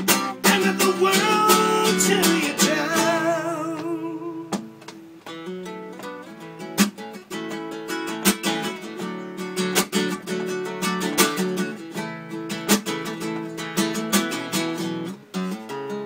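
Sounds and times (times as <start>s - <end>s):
classical acoustic guitar: 0.0s - 16.0s.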